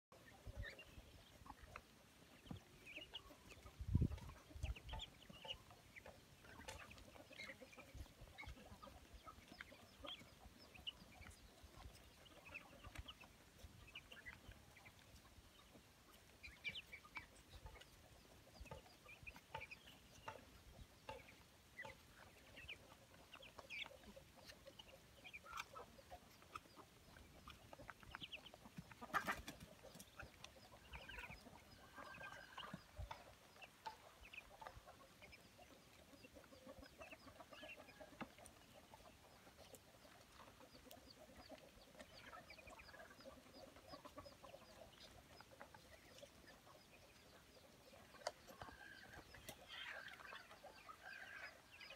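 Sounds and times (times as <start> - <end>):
ducklings peeping: 0.1 - 51.9.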